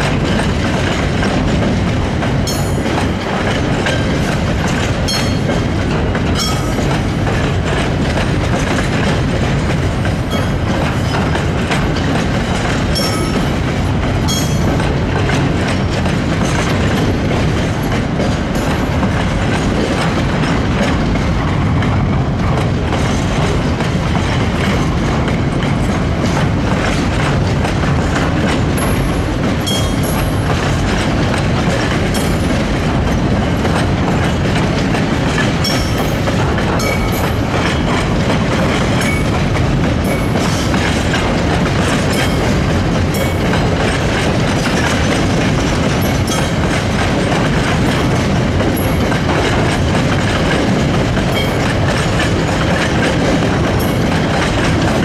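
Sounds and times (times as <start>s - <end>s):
train rumbling: 0.0s - 55.0s
wheels clicking over rails: 0.0s - 55.0s.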